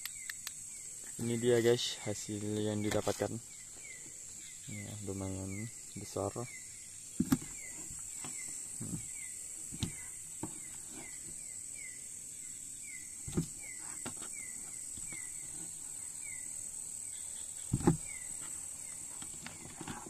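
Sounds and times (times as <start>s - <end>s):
insects high-pitched drone: 0.0s - 20.0s.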